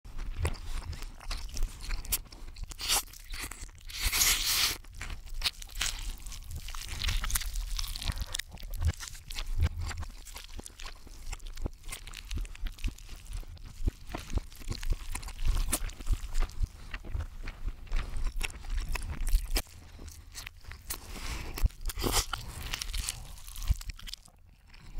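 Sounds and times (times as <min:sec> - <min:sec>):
reversed chewing crunches: 0:00.1 - 0:24.9.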